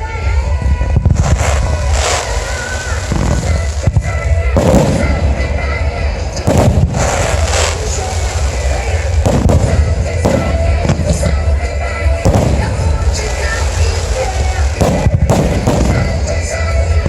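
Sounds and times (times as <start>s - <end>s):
fireworks booming and crackling: 0.3s - 17.0s.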